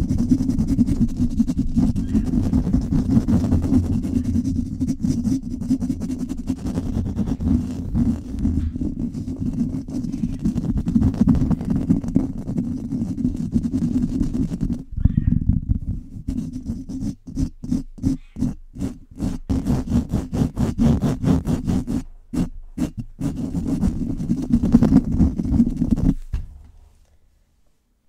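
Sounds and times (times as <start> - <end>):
scratching on microphone: 0.0 - 27.0.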